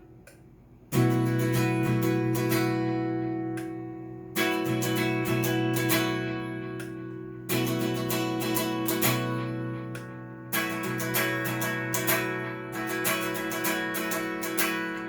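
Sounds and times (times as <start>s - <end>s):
clean electric guitar chords: 0.9s - 15.0s.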